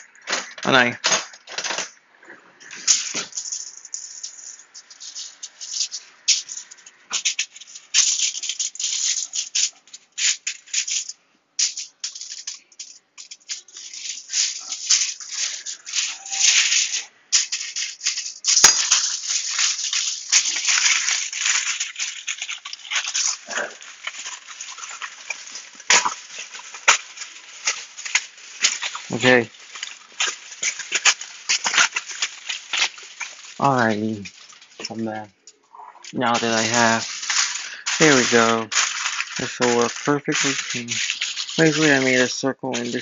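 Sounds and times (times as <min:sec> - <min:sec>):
aluminium foil crinkling: 0:00.0 - 0:02.0, 0:02.6 - 0:43.0.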